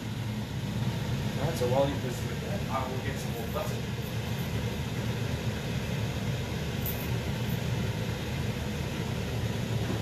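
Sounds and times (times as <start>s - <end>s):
gas burner flame rumbling: 0.0s - 10.0s.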